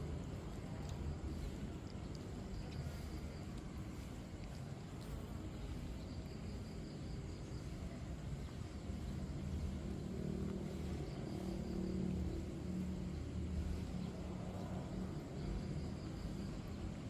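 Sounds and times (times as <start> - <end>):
faint insect chirping: 0.0 - 17.0.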